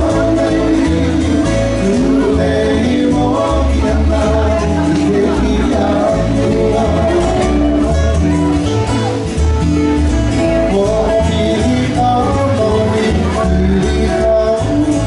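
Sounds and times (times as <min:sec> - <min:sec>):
acoustic guitar music over speakers: 0:00.0 - 0:15.0
deep bass notes: 0:00.0 - 0:15.0.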